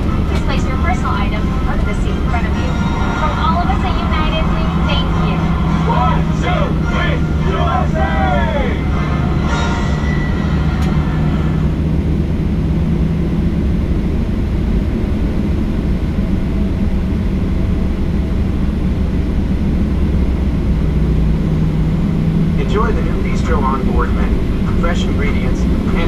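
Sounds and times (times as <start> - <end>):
jet engines rumbling in cabin: 0.0 - 26.0.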